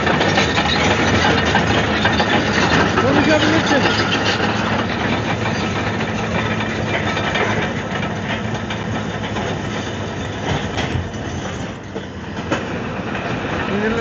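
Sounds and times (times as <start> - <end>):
bulldozer diesel engine running: 0.0 - 14.0
metallic rattle: 0.0 - 14.0.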